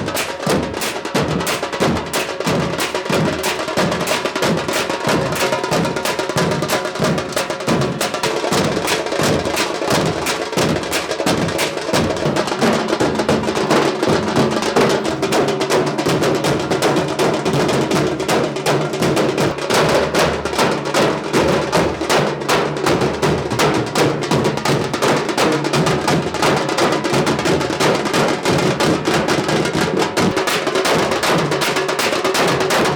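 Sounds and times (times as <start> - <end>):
drum troupe playing fast rhythm: 0.0 - 32.9.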